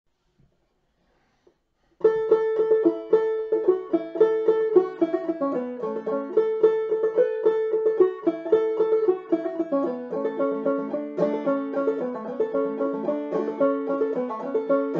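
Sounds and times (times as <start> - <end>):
solo banjo tune: 2.0 - 14.9.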